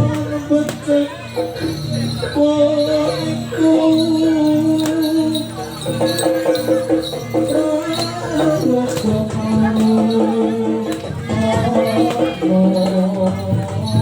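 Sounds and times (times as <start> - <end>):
bells jingling: 0.0 - 14.0.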